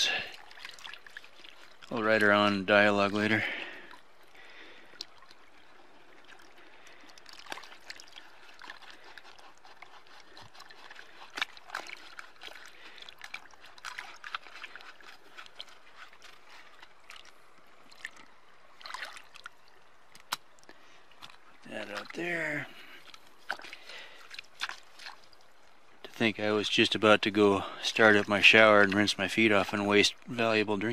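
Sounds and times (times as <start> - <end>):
foot splashing in water: 0.0 - 2.6, 3.2 - 20.6, 21.2 - 25.9
creek water trickling: 0.0 - 30.9.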